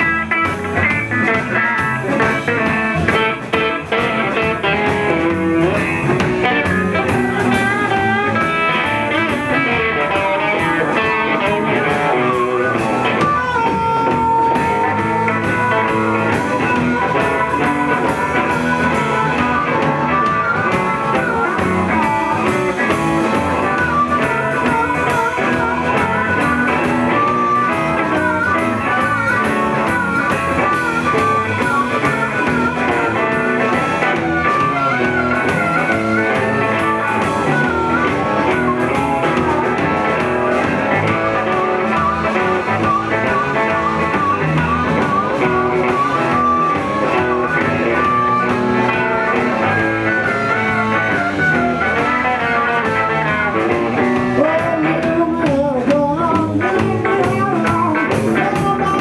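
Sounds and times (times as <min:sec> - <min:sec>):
electric guitar bent notes: 0:00.0 - 0:59.0
live blues band playing: 0:00.0 - 0:59.0.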